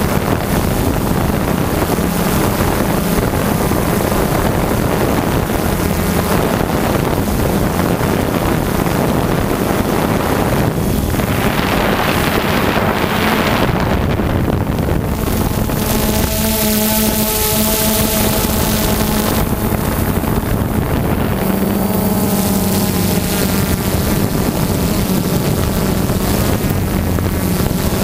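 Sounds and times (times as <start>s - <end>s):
drone propellers whirring: 0.0s - 28.0s
low hum: 0.0s - 28.0s
wind rushing over microphone: 0.0s - 28.0s.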